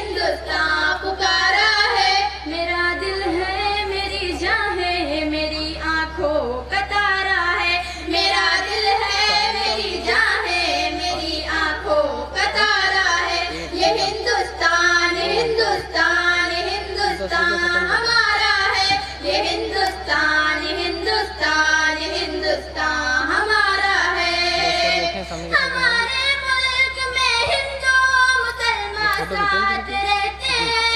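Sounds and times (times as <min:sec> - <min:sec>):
woman singing with vibrato: 0:00.0 - 0:30.9.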